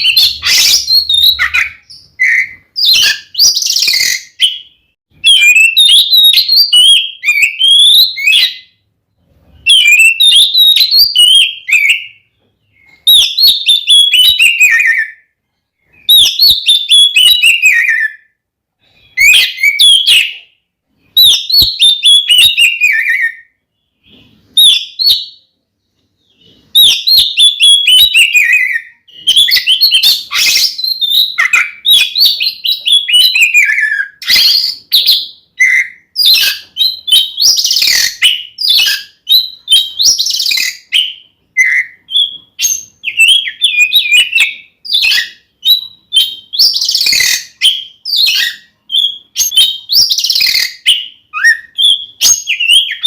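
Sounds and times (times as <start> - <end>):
bird singing whistles and chatter: 0.0 - 8.8, 9.5 - 15.2, 21.1 - 25.4, 26.3 - 53.0.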